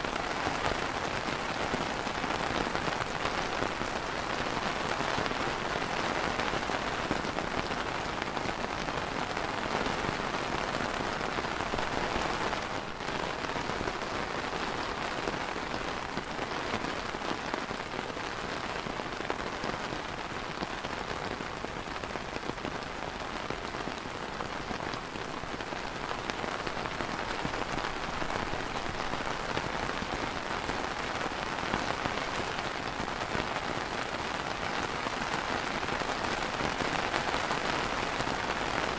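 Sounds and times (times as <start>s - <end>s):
rain on plastic umbrella: 0.0s - 38.9s.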